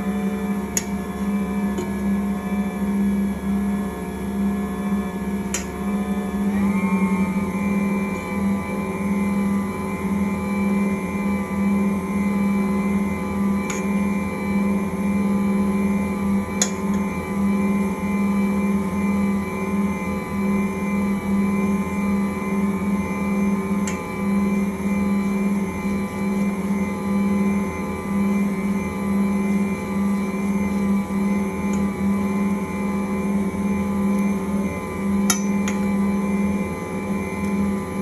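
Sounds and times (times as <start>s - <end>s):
stand mixer motor humming: 0.0s - 38.0s.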